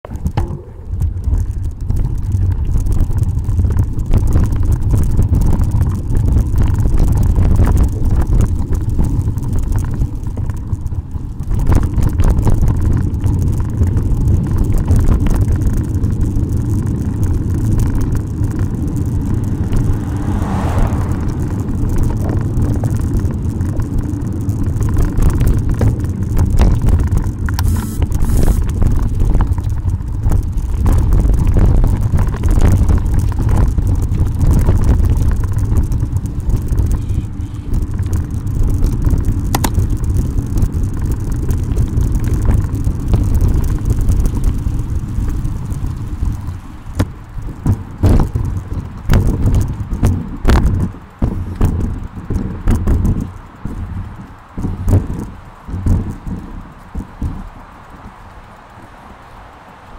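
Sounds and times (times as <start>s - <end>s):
bicycle rattling over trail: 0.0s - 59.9s
wind buffeting microphone: 0.0s - 59.9s.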